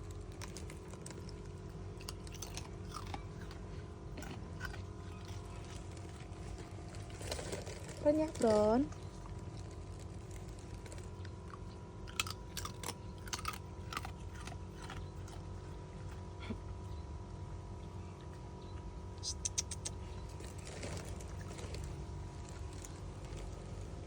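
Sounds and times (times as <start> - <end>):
dog chewing and crunching food: 0.0 - 24.0.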